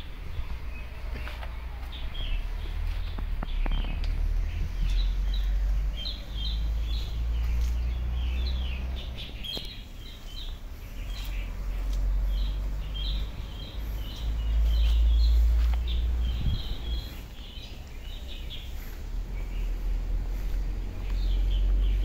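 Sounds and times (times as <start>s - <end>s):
low uneven rumble: 0.0s - 22.0s
small birds chirping: 0.0s - 22.0s.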